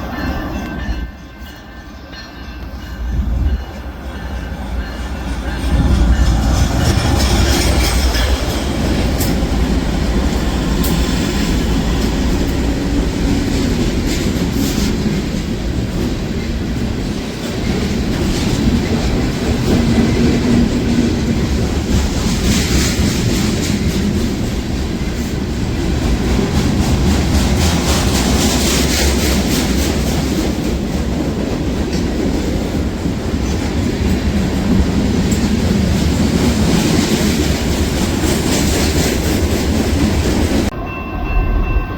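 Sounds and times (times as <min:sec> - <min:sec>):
train wheels on rails: 0:00.0 - 0:41.9.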